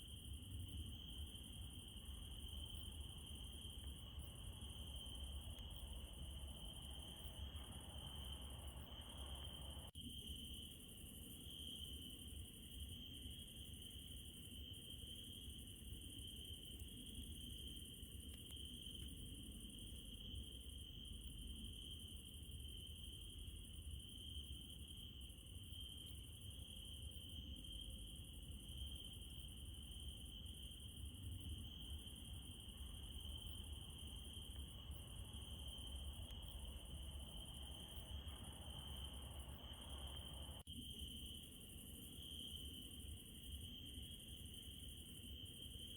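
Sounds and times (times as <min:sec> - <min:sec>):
night insects trilling: 0:00.0 - 0:45.9.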